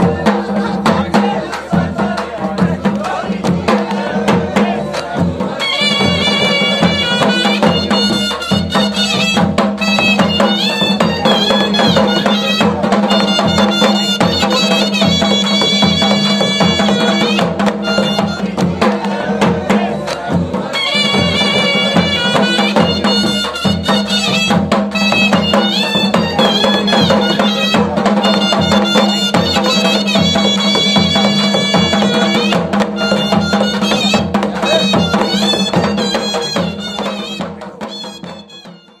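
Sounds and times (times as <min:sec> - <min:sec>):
drums keeping a beat: 0:00.0 - 0:39.0
reedy wind instrument melody: 0:05.5 - 0:39.0.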